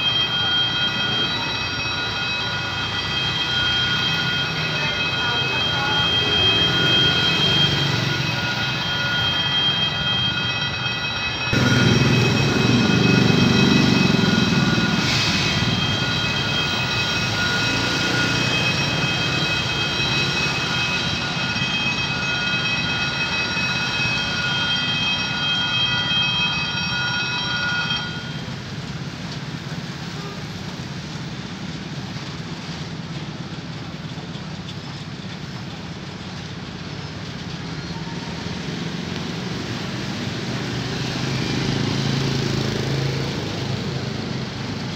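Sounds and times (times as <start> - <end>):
level-crossing warning bell: 0.0 - 44.9.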